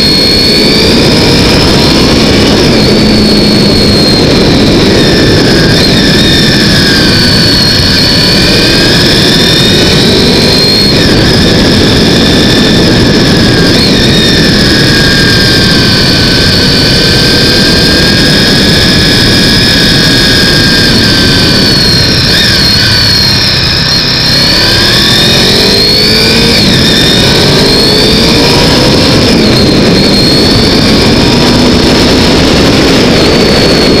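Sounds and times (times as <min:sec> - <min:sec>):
motorcycle engine running: 0:00.0 - 0:34.0
wind rush on microphone: 0:00.0 - 0:34.0.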